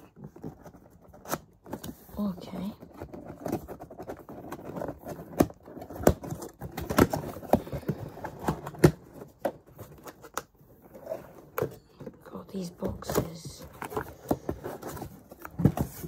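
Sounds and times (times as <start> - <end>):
cardboard box rustling: 0.0 - 16.0.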